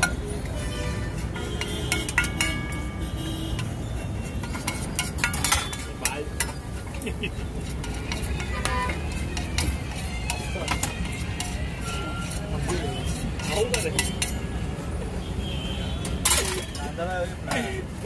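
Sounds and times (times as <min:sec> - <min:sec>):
metal spatula scraping on griddle: 0:00.0 - 0:14.6, 0:16.0 - 0:17.9.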